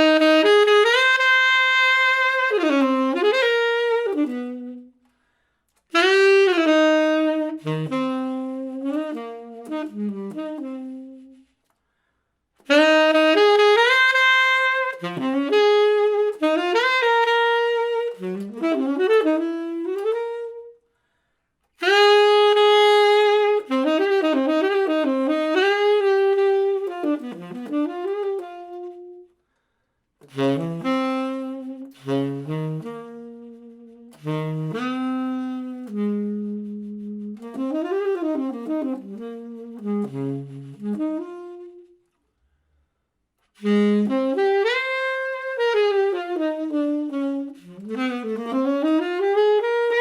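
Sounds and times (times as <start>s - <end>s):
saxophone jazz ballad: 0.0s - 50.0s.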